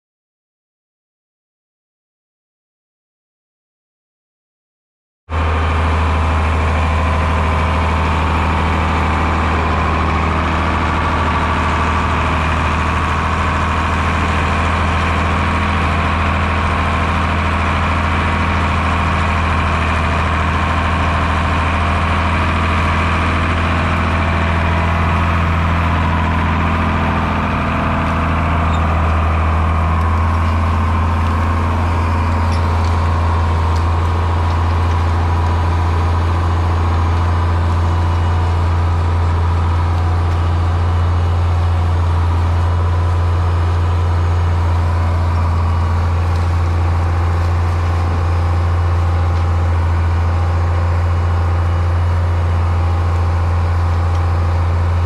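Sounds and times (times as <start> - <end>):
tractor engine running under load: 5.3 - 55.0.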